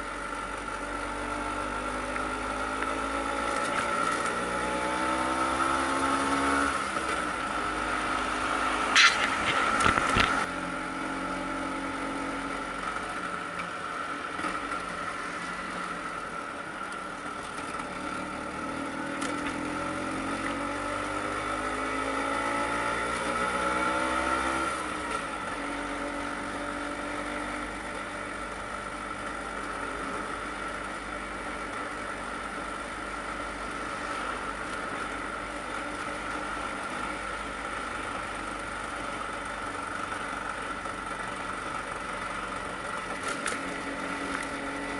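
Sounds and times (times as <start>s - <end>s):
two-stroke scooter engine accelerating: 0.0s - 44.9s.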